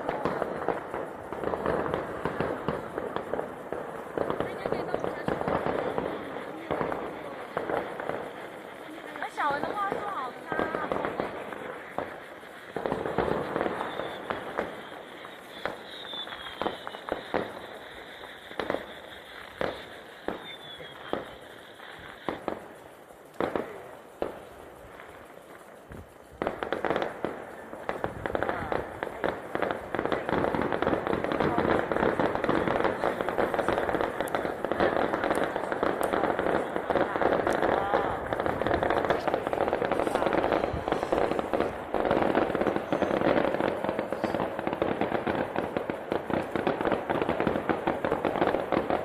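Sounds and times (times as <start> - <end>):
crackling firework pops: 0.0 - 49.0
firework bangs: 0.0 - 49.0.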